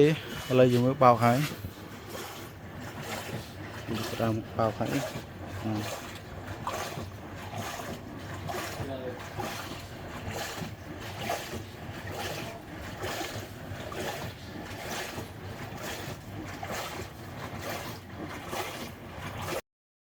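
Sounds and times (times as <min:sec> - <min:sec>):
washing machine water sloshing: 0:00.0 - 0:19.6.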